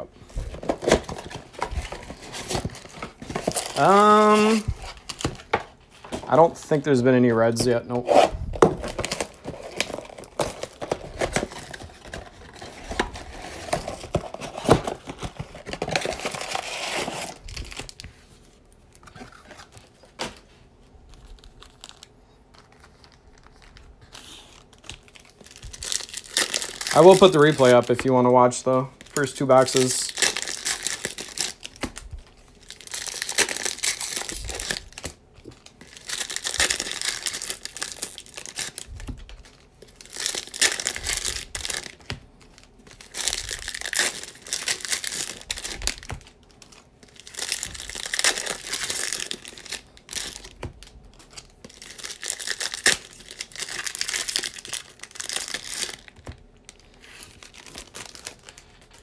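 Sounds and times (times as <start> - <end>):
card wrappers crinkling: 0.2 - 59.0.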